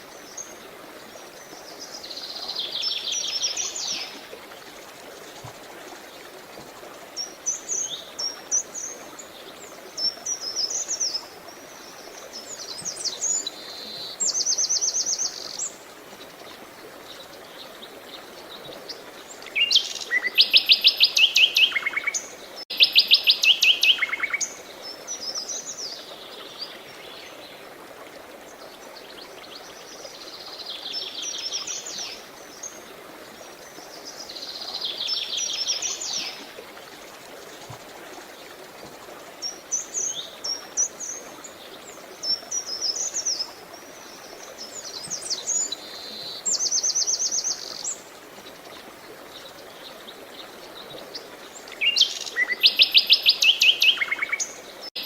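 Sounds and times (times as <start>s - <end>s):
running water: 0.0s - 55.0s
songbirds singing and trilling: 0.1s - 27.7s, 28.5s - 55.0s.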